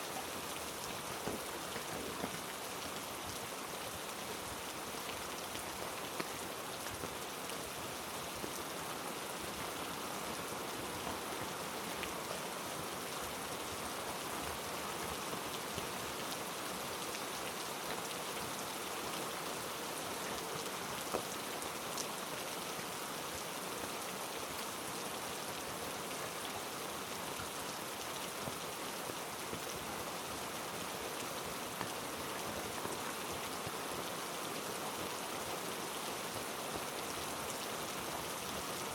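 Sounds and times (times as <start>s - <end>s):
heavy rain on foliage: 0.0s - 38.9s.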